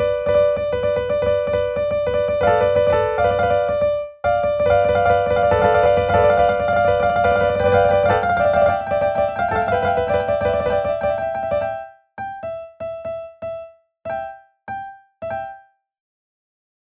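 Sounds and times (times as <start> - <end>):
synthesized piano-like notes: 0.0 - 15.8.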